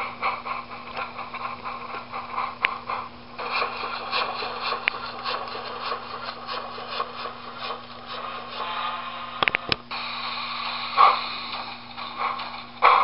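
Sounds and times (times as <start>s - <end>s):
model train wheels clicking: 0.0s - 8.7s, 10.2s - 13.0s
electrical hum: 0.0s - 13.0s.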